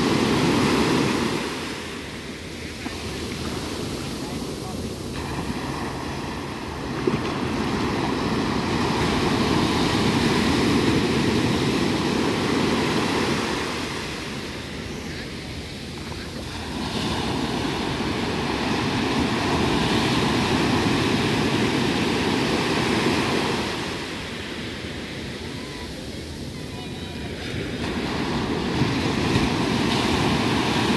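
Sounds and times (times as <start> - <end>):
ocean waves breaking on beach: 0.0 - 30.9.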